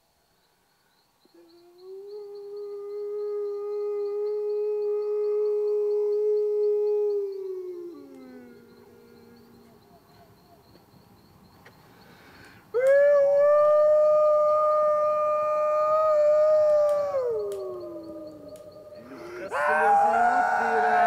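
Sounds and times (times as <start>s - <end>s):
long howl: 1.3s - 10.1s, 12.7s - 21.0s.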